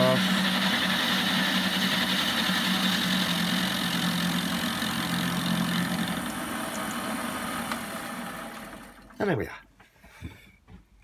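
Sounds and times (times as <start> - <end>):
metal lathe running: 0.0 - 9.1.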